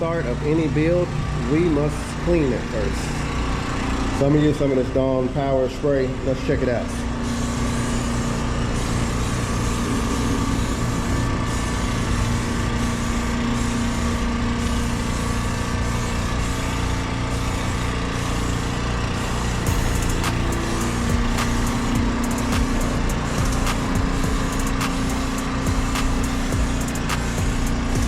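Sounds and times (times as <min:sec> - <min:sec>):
engine humming steadily: 0:00.0 - 0:28.0.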